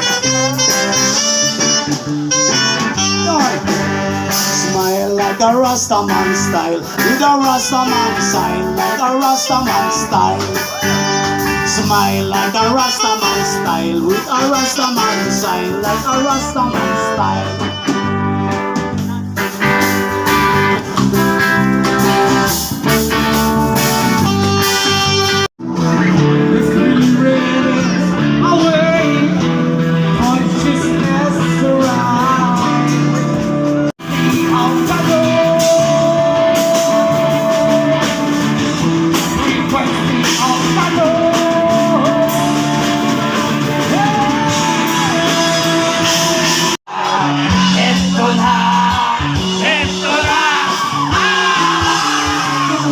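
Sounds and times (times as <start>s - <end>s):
person singing: 0.0s - 19.2s, 23.8s - 52.9s
guitar music: 0.0s - 52.9s.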